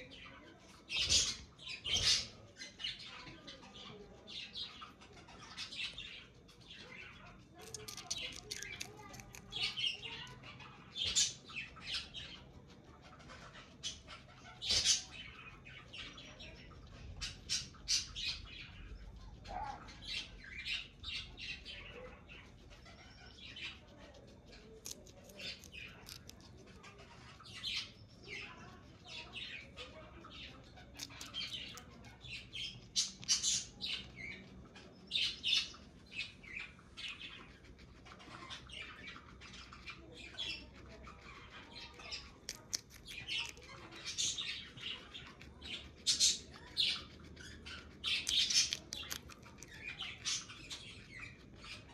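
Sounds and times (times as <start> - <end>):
guinea pig crunching a bean: 0.0 - 51.9.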